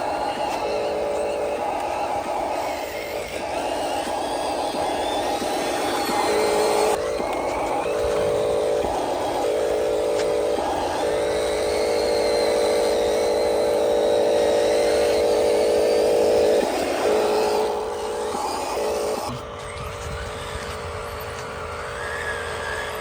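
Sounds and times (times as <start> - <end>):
rc truck motor and gear whine: 0.0 - 23.0.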